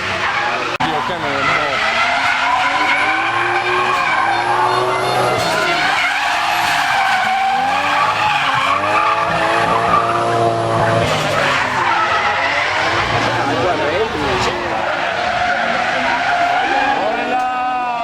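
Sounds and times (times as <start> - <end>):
car engine revving hard: 0.0 - 17.4
tyres squealing and skidding: 0.0 - 18.0.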